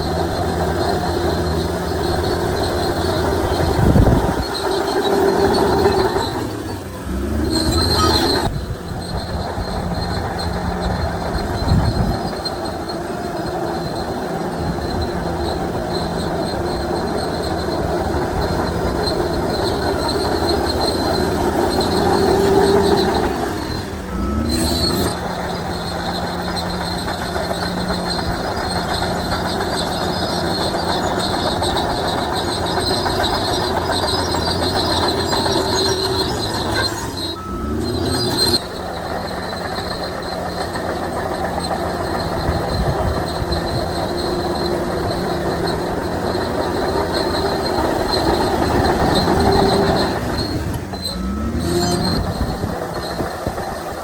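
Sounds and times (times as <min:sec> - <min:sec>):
bulldozer engine under load: 0:00.0 - 0:54.0
steel tracks squealing and clattering: 0:00.0 - 0:54.0.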